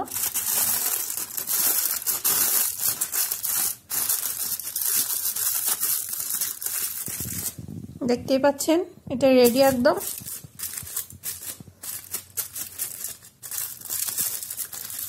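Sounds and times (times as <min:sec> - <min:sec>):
aluminium foil crinkling: 0:00.0 - 0:07.7, 0:09.4 - 0:15.0.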